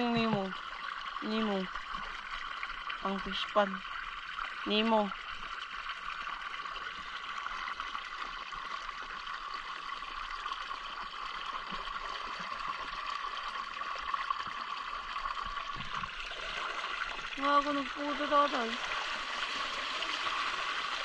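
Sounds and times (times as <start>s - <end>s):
flowing canal water: 0.0s - 21.0s.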